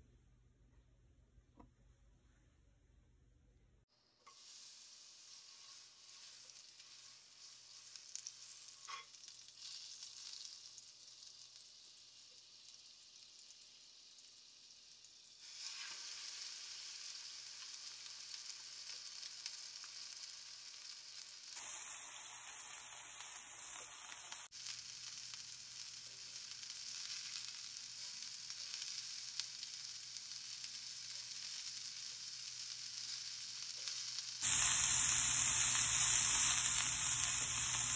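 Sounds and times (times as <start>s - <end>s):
meat patty frying: 3.9s - 37.9s
butter sizzling in a skillet: 4.0s - 37.9s.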